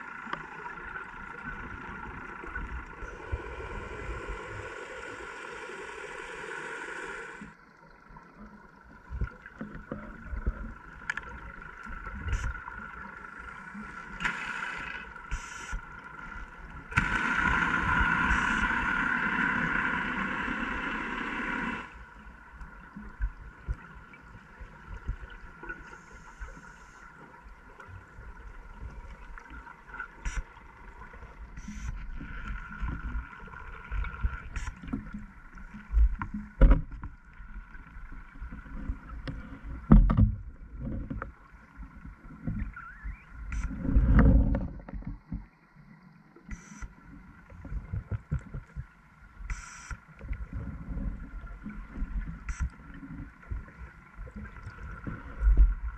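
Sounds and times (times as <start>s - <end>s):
regulator bubbles underwater: 0.0s - 14.2s, 14.8s - 55.9s
faint steady hum: 0.0s - 55.9s.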